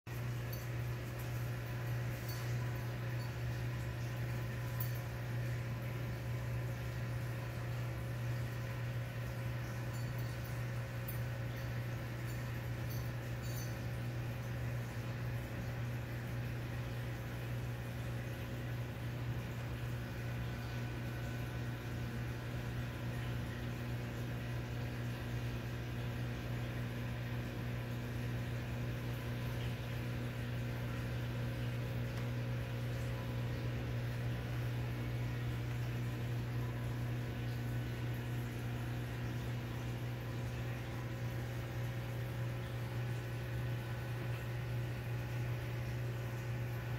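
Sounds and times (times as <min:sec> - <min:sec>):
aquarium equipment humming: 0:00.1 - 0:46.9.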